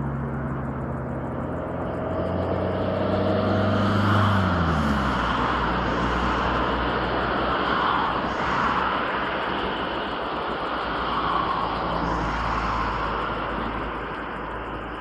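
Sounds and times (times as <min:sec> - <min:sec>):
distant vehicle traffic: 0:00.0 - 0:15.0.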